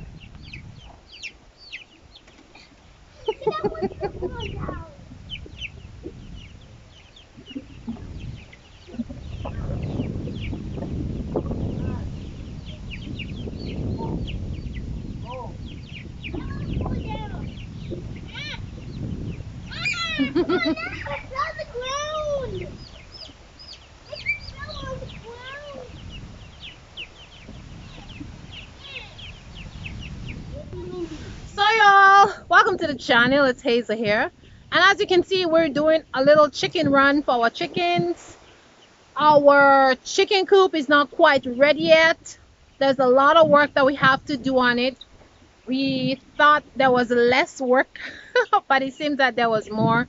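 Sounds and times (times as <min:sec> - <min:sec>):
chicks peeping: 0:00.0 - 0:50.0
low rumbling noise: 0:00.0 - 0:50.0.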